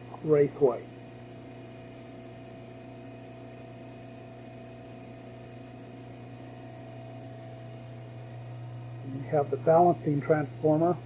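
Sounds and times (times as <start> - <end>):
generator hum: 0.0 - 11.0.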